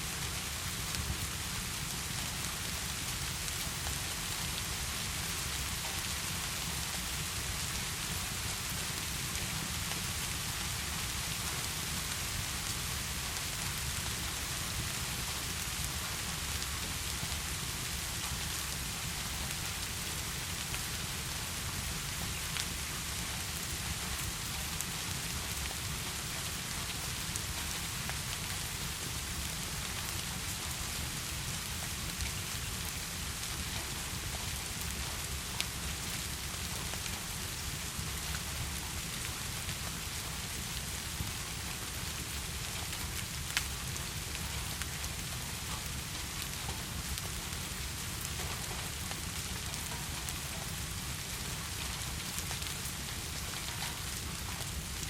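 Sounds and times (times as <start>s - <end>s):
heavy rain falling: 0.1s - 55.0s.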